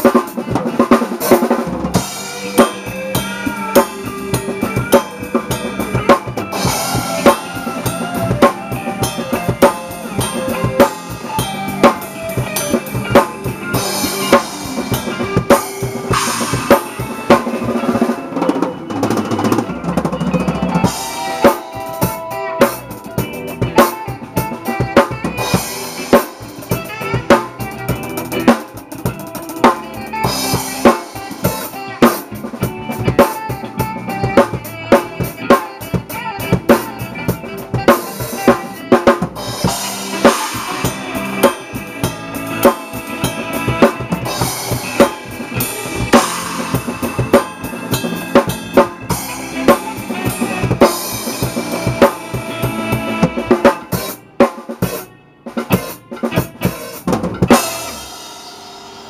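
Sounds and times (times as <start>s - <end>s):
funk drum kit groove: 0.0s - 59.0s.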